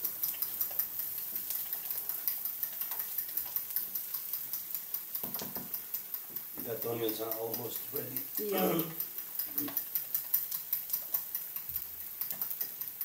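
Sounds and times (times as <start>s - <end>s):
fork whisking eggs in a bowl: 0.0s - 13.0s.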